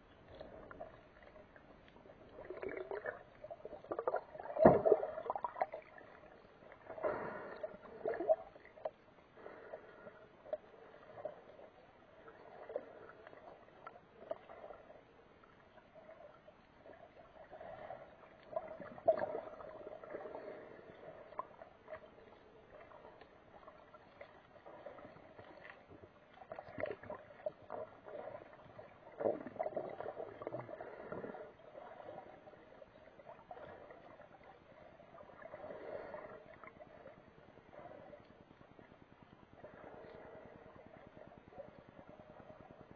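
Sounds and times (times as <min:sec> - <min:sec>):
muffled water sloshing: 0:00.0 - 0:42.9.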